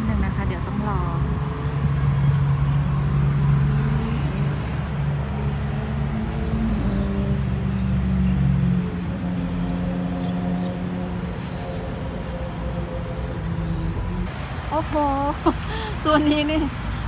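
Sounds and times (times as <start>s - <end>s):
engine running steadily: 0.0s - 14.3s.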